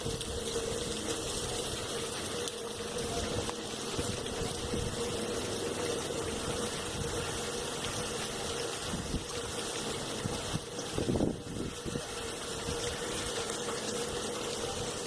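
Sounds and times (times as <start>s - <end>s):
constant low hum: 0.0s - 15.0s
rain and wind rushing: 0.0s - 15.0s.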